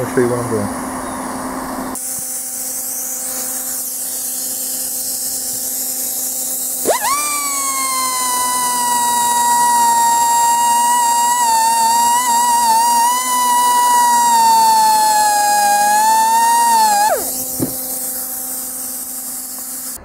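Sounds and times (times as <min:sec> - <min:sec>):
die grinder whining: 0:02.0 - 0:20.0.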